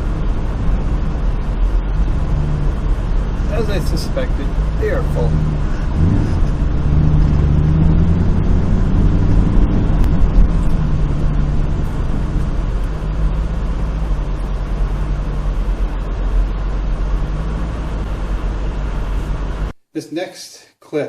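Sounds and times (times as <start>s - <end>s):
car engine hum: 0.0s - 19.7s.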